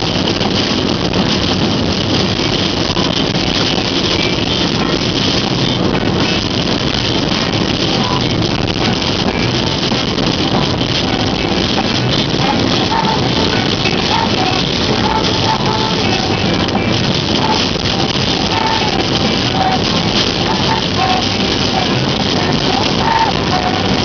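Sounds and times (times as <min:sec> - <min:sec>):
heavy rain on car roof: 0:00.0 - 0:24.0.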